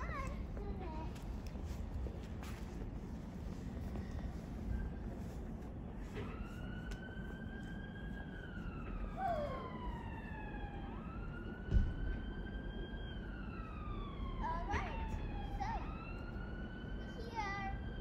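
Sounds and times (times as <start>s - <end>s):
low outdoor rumble: 0.0s - 18.0s
siren wailing: 3.5s - 18.0s.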